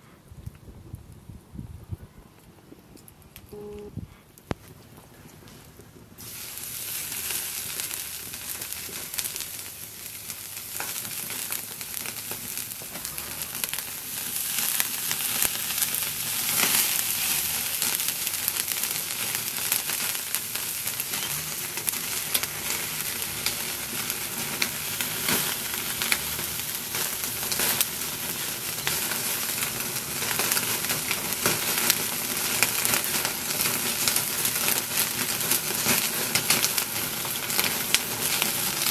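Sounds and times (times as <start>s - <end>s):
chicken sizzling on grill: 6.2s - 38.9s.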